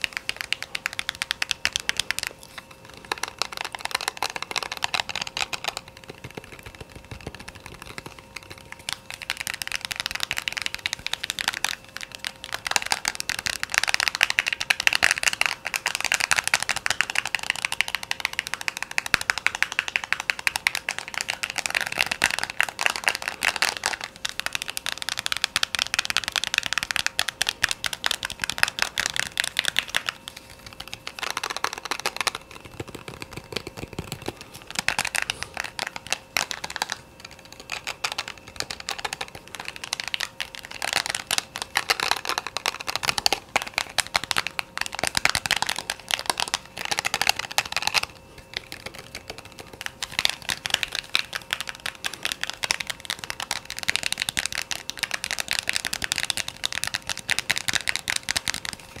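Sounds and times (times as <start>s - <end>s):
rapid light tapping: 0.0s - 59.0s.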